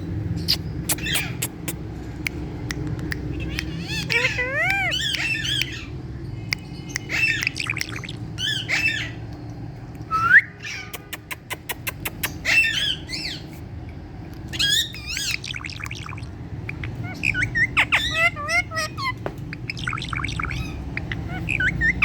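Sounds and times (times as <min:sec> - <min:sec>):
parakeet squawking and chirping: 0:00.3 - 0:02.2, 0:02.8 - 0:06.0, 0:06.7 - 0:09.3, 0:10.6 - 0:13.5, 0:14.4 - 0:22.0.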